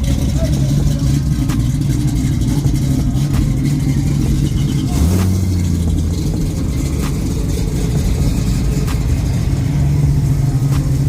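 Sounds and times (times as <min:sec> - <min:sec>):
car engine exhaust rumble: 0:00.0 - 0:11.0.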